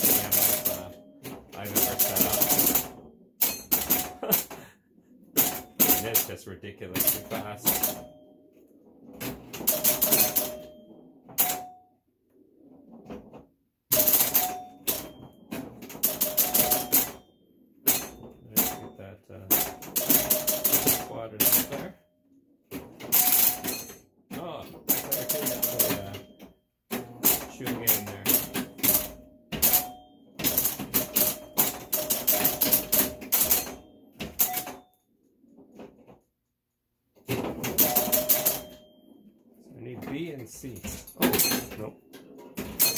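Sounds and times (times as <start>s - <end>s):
pinball machine clicking: 0.0s - 11.8s, 12.4s - 22.0s, 22.7s - 36.2s, 37.1s - 42.9s.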